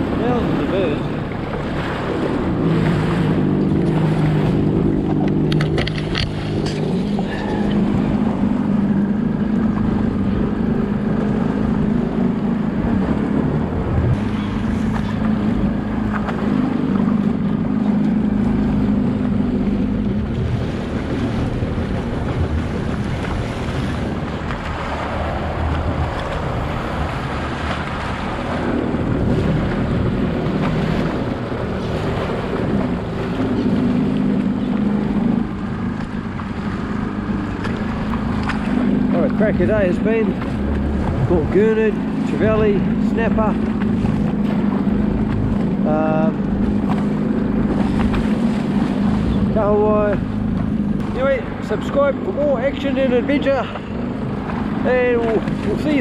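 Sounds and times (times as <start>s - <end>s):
jet ski engine droning: 0.0s - 56.0s
water rushing against hull: 0.0s - 56.0s
wind on microphone: 0.0s - 56.0s.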